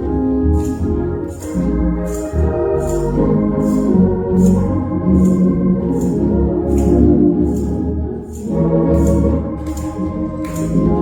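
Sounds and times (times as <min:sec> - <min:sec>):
organ music with bass line: 0:00.0 - 0:11.0.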